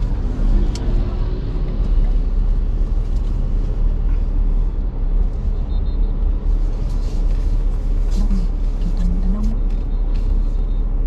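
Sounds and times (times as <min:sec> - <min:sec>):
vehicle road rumble: 0:00.0 - 0:11.0.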